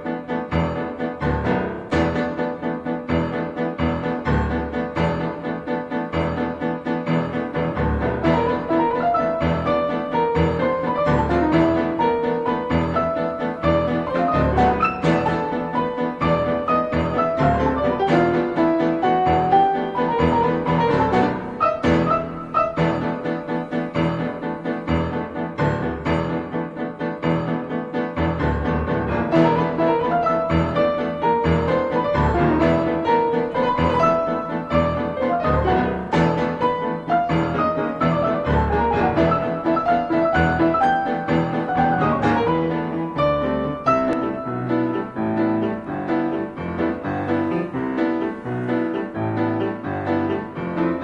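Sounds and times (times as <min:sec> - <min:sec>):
piano background music: 0:00.0 - 0:51.0.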